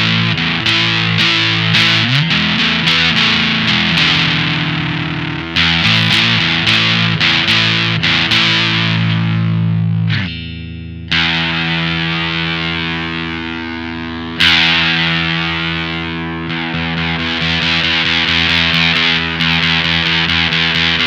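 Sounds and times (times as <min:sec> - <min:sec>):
fuzzed electric guitar chords: 0:00.0 - 0:21.0.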